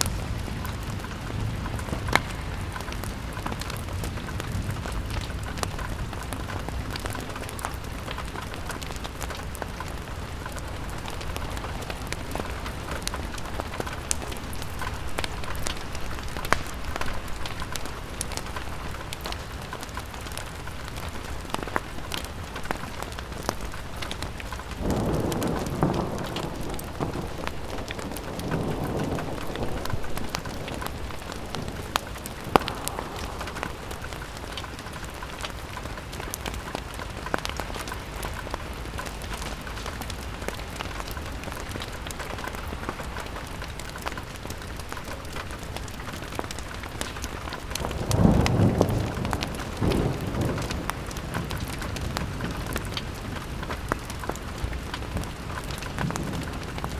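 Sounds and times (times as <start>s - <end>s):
fire crackling: 0.0s - 56.9s
rain pattering on a window: 0.0s - 56.9s.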